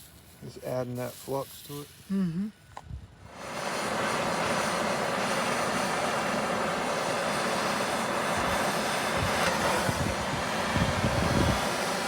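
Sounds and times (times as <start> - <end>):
gas torch roaring hiss: 0.0 - 2.2, 3.2 - 12.0.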